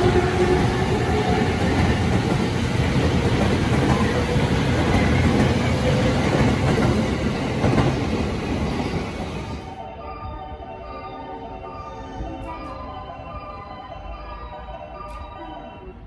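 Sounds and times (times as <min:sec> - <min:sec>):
electric train rumbling on rails: 0:00.0 - 0:16.0.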